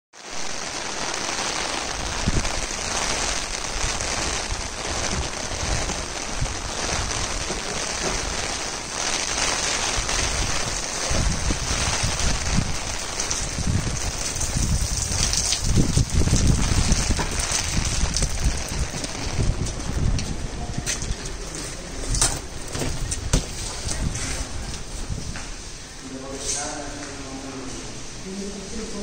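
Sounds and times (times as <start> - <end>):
steady rain falling: 0.1 - 29.0.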